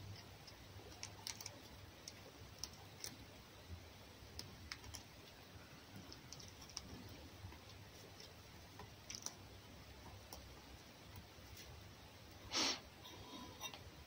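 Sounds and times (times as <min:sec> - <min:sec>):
quiet low hum: 0:00.0 - 0:14.0.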